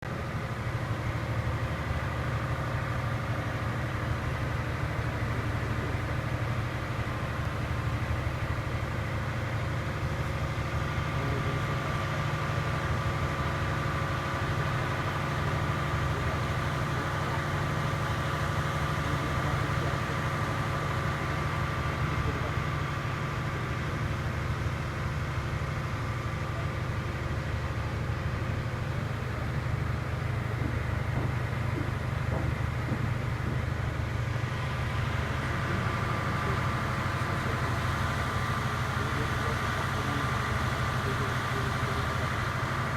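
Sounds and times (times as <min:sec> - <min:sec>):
ferry engine droning: 0:00.0 - 0:42.9.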